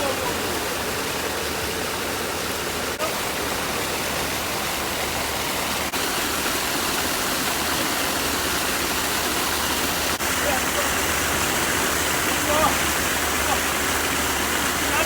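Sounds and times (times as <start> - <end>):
water rushing at seashore: 0.0 - 15.0.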